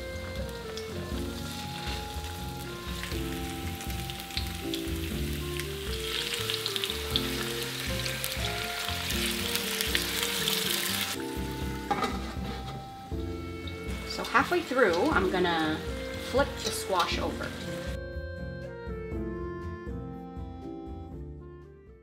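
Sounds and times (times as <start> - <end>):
food sizzling in oil: 0.0 - 18.0
background music: 0.0 - 22.0.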